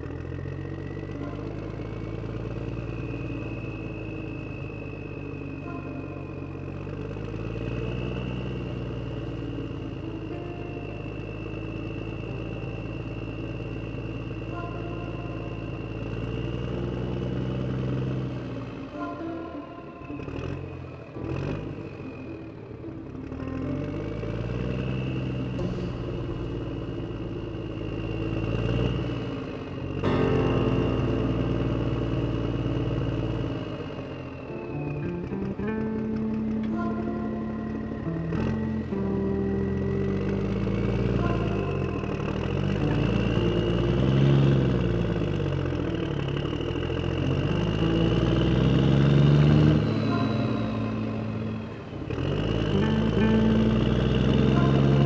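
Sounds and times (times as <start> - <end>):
motorbike engine running: 0.0 - 55.0
passing scooter traffic: 0.0 - 55.0
road noise: 0.0 - 55.0.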